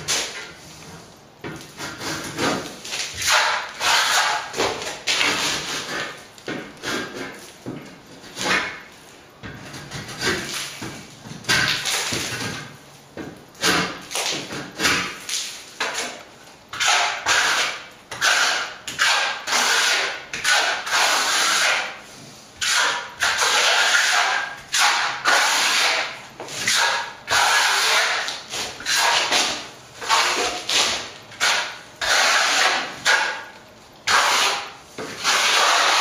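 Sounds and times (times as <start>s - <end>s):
trowel scraping plaster: 0.0s - 8.9s, 9.5s - 12.8s, 13.6s - 36.0s.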